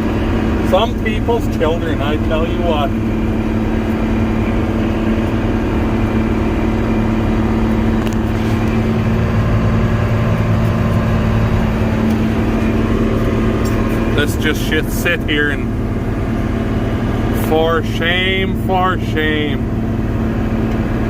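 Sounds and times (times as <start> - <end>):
combine harvester droning: 0.0 - 21.0.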